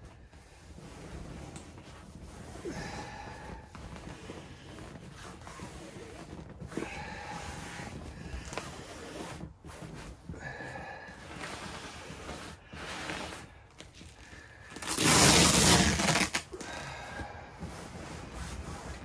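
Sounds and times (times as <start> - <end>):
fabric flap rustling: 0.0 - 19.0
tent fabric rustling: 0.0 - 19.0.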